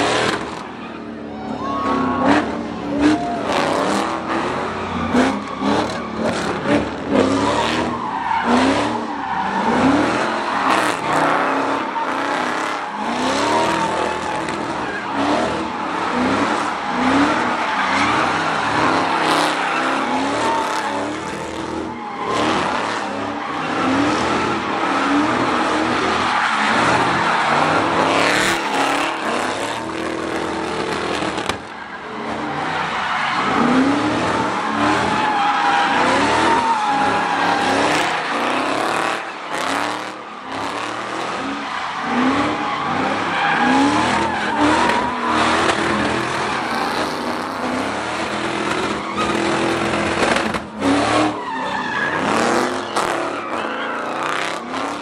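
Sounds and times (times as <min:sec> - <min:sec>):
car engine revving: 0:00.0 - 0:01.2, 0:01.8 - 0:55.0
tyres squealing: 0:00.1 - 0:55.0.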